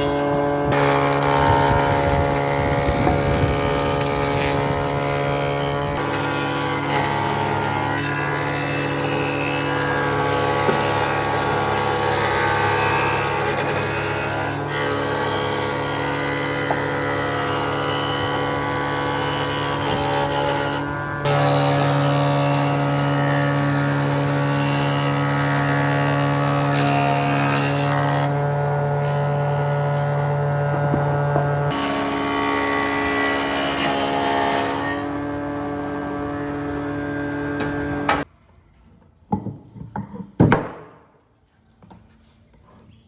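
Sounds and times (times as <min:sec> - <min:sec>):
power tool motor running: 0:00.0 - 0:38.3.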